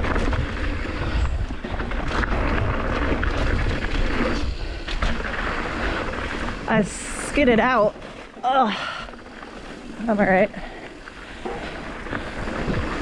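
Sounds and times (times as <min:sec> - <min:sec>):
bike tyre and wind noise: 0:00.0 - 0:13.0.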